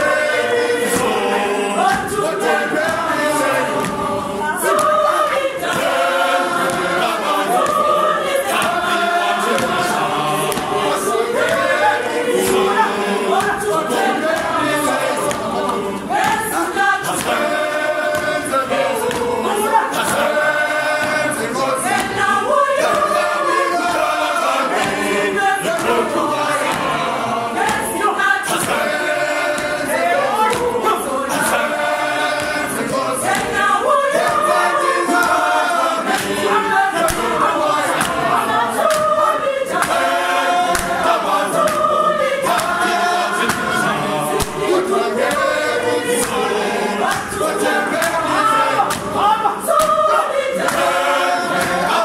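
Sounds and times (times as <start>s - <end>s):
adult choir singing: 0.0s - 52.0s.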